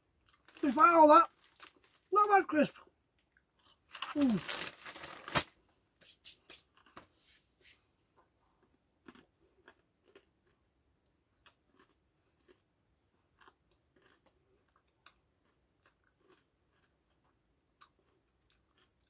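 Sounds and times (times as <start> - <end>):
crisps being chewed: 0.2 - 5.4, 8.4 - 19.0.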